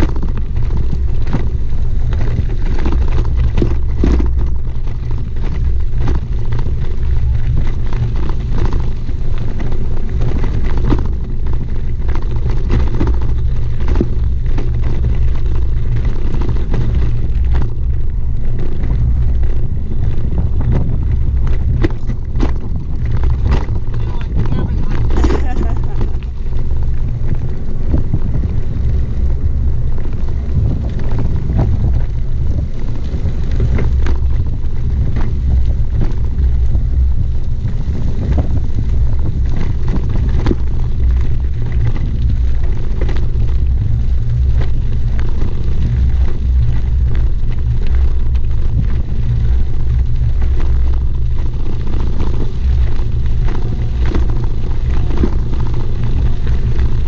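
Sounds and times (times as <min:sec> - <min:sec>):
bike rattling: 0:00.0 - 0:57.0
tyres crunching on gravel: 0:00.0 - 0:57.0
wind buffeting microphone: 0:00.0 - 0:57.0.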